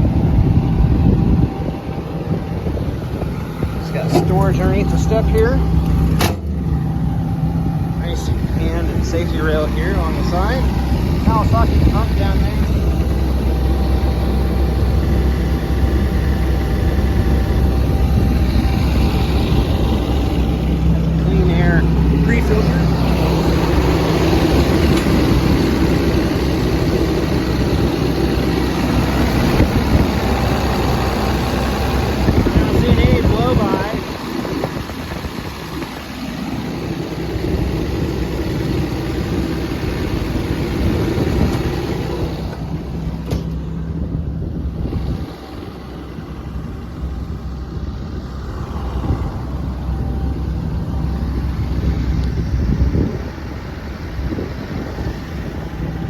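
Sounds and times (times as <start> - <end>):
excavator diesel engine idling: 0.0 - 56.0.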